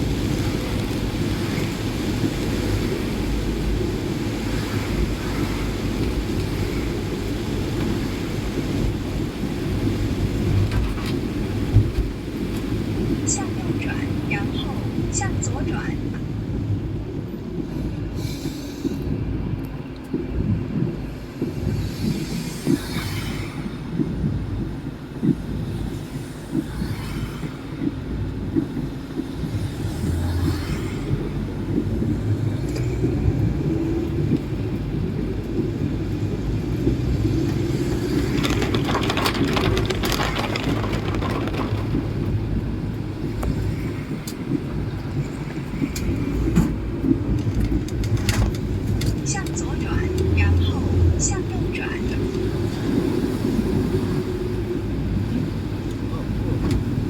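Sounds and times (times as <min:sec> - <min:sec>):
vehicle rumbling: 0:00.0 - 0:57.0.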